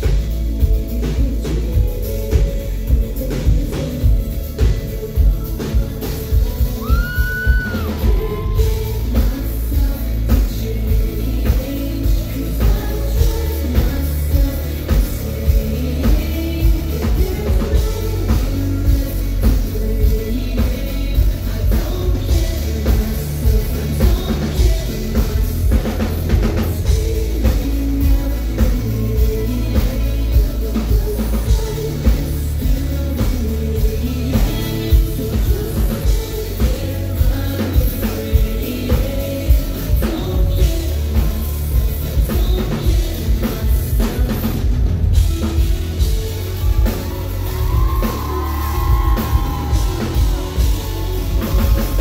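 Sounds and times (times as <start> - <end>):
person singing into microphone: 0.0 - 52.0
pop backing track with bass: 0.0 - 52.0.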